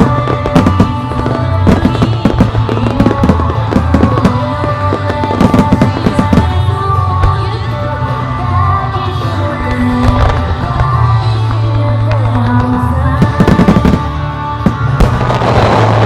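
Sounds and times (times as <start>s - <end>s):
firework shells bursting with crackling: 0.0s - 7.5s, 9.7s - 16.0s
loud music with steady bass: 0.0s - 16.0s.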